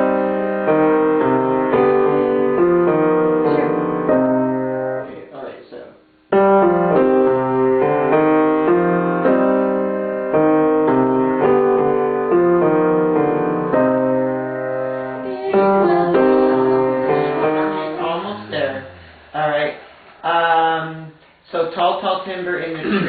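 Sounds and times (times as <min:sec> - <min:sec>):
piano chords: 0:00.0 - 0:19.3.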